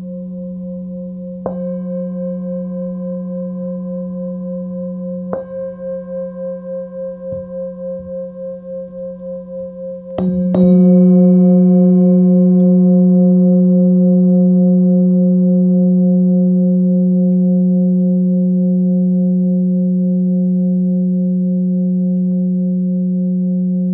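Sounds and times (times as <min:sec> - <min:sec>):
singing bowl struck and ringing: 0:00.0 - 0:23.9.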